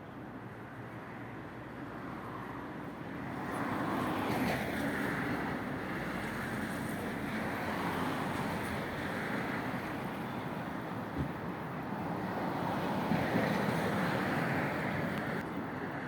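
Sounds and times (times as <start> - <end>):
steady road rumble: 0.0 - 16.0.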